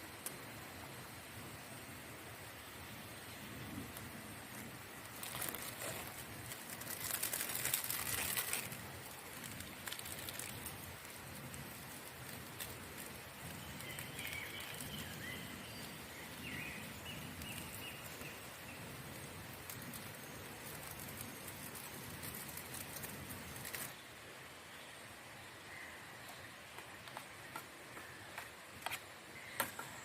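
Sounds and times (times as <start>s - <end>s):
crackling clicks and rustle: 0.0s - 1.1s, 2.9s - 24.0s, 26.2s - 30.0s
forest ambience hiss: 0.0s - 30.0s.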